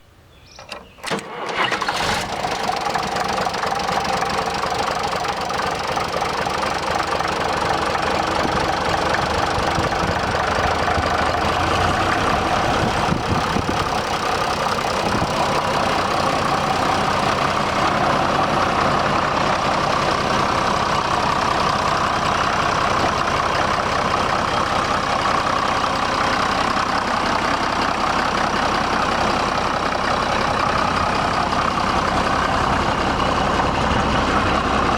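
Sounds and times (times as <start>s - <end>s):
tractor engine cranking and running: 0.5s - 34.9s.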